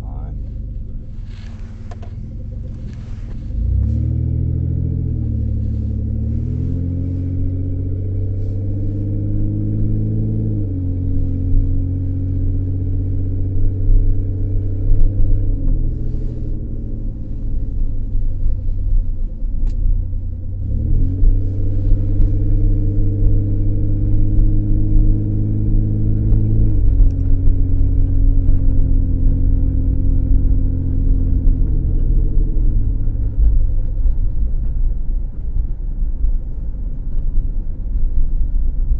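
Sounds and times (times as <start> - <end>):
car engine accelerating: 0.0 - 38.9
low road rumble: 0.0 - 38.9.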